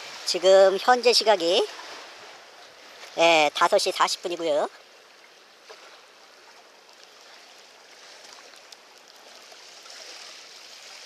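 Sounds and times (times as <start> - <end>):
seawater washing against shore: 0.0 - 11.0.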